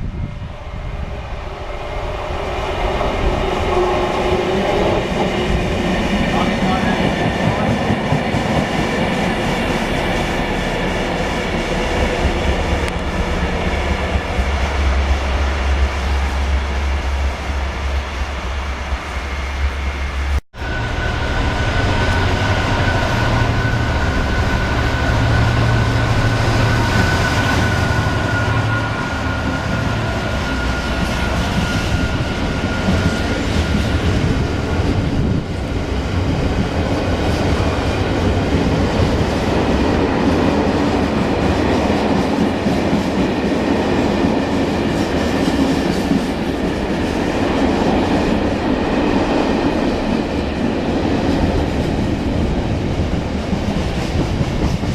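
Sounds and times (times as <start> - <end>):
train wagons rumbling on rails: 0.0 - 54.9.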